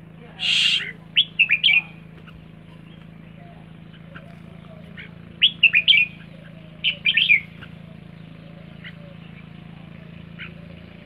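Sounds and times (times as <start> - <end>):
bird chirping: 0.4 - 2.0, 2.7 - 10.9.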